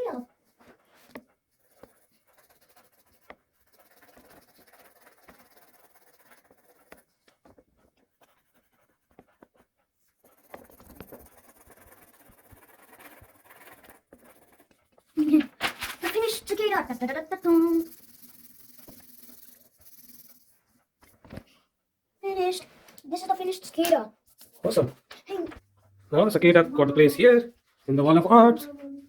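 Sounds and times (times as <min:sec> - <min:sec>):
pencil scratching on paper: 0:00.0 - 0:21.4, 0:22.3 - 0:27.4.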